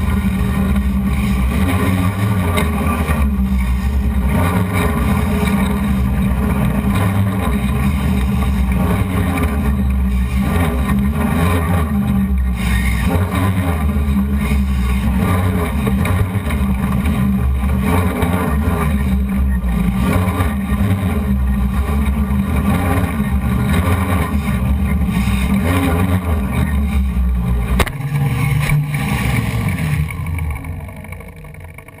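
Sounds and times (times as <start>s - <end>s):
drone propellers droning: 0.0s - 32.0s.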